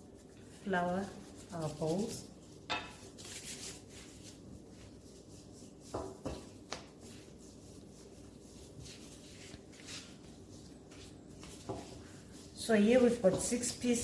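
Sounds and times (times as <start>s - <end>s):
hands rubbing dough: 0.0s - 14.0s.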